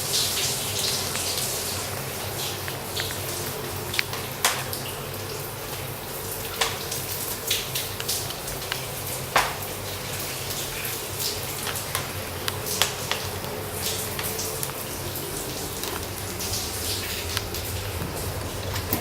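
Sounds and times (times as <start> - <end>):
wood fire popping: 2.4 - 5.0, 5.6 - 19.0.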